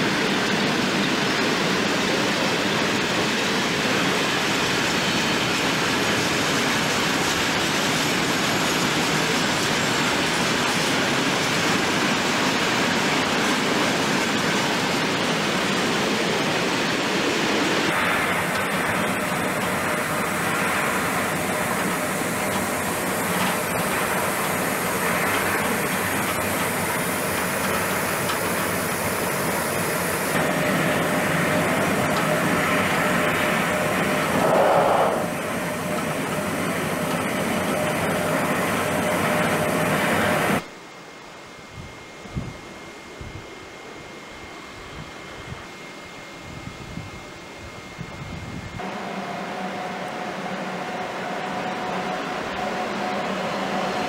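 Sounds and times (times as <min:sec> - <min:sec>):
train wheels rushing on rail: 0:00.0 - 0:40.7, 0:46.8 - 0:54.0.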